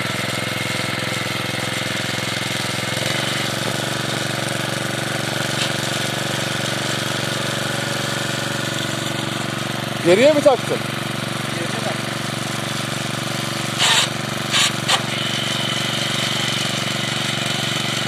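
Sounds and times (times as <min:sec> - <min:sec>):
tiller petrol engine running: 0:00.0 - 0:18.0.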